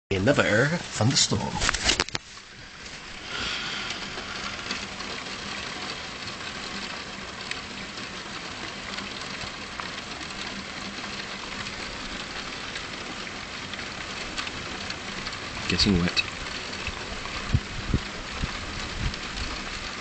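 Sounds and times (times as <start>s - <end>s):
rain falling: 0.1s - 20.0s
close raindrop ticks: 0.2s - 20.0s.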